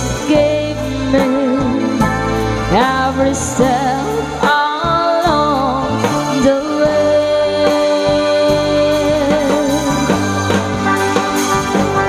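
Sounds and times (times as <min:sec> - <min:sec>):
drum kit: 0:00.0 - 0:12.0.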